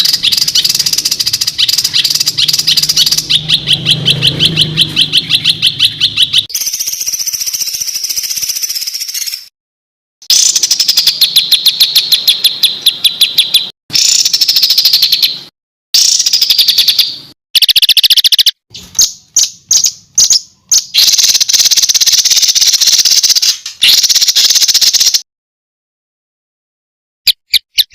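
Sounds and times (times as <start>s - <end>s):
bird sharp chips: 0.0s - 9.5s, 10.2s - 25.2s, 27.3s - 27.9s
songbird harsh trills: 0.0s - 9.5s, 10.2s - 25.2s.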